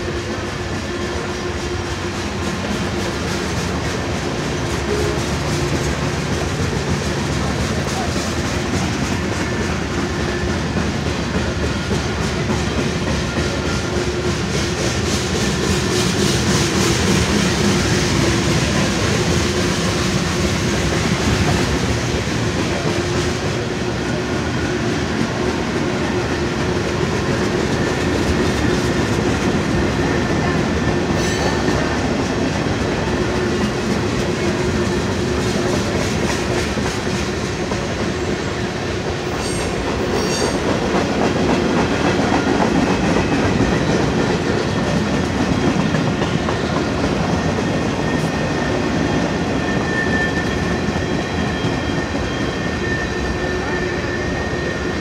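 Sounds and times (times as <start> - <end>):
freight train wheels rolling: 0.0 - 55.0.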